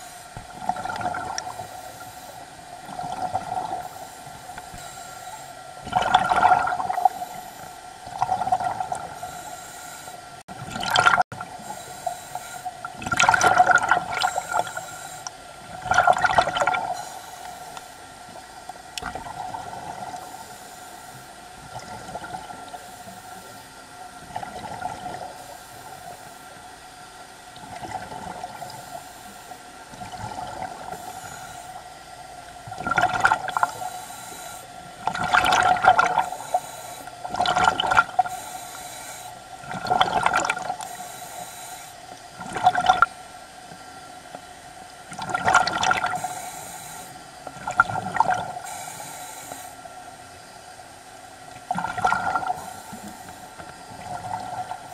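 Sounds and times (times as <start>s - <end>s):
steady hum: 0.0s - 54.9s.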